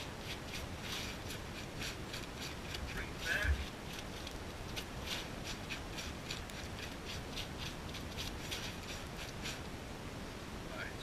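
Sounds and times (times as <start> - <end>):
boots scraping on snow: 0.0 - 9.6
steady hiss: 0.0 - 11.0.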